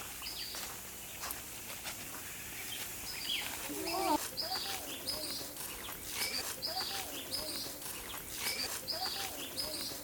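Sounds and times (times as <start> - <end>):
faint outdoor hiss: 0.0 - 10.0.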